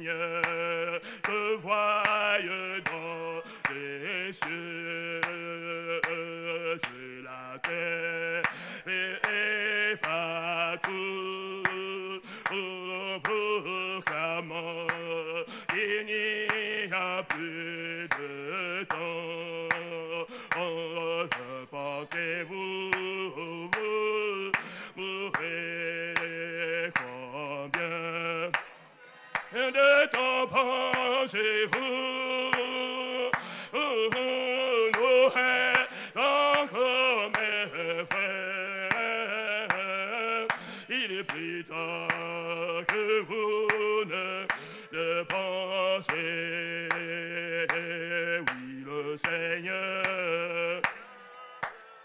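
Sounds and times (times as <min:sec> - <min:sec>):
hand claps: 0:00.0 - 0:52.0
man leading singing at microphone: 0:00.0 - 0:52.0.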